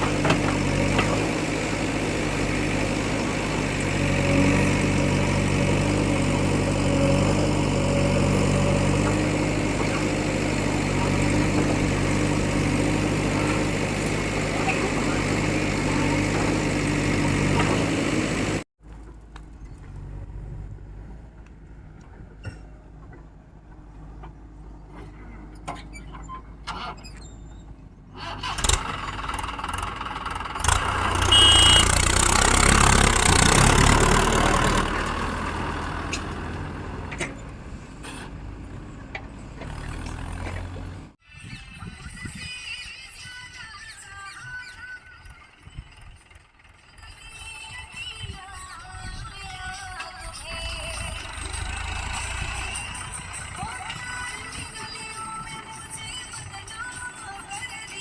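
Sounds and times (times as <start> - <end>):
diesel engines running: 0.0 - 41.2, 45.0 - 58.0.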